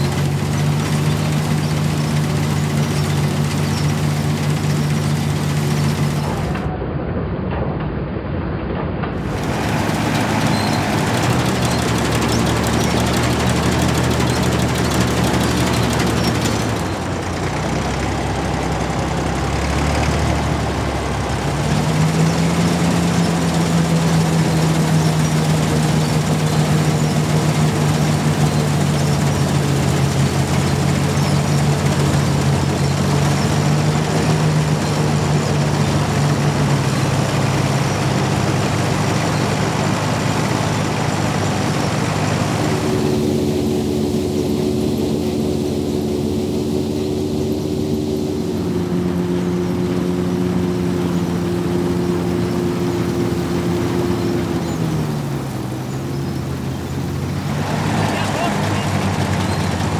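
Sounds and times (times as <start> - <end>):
diesel tractor engine under load: 0.0 - 6.8, 9.1 - 59.9
combine threshing machinery: 0.0 - 6.9, 9.0 - 59.9.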